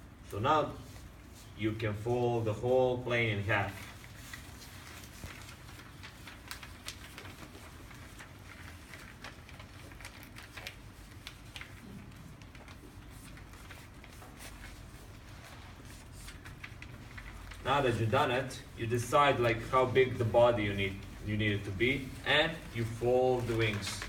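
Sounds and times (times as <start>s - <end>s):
low background hum: 0.0s - 24.0s
paper rustling and crinkling: 3.2s - 24.0s.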